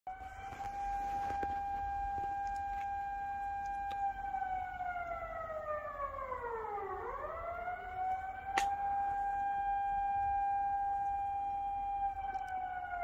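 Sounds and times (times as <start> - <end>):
warning siren: 0.1 - 13.0.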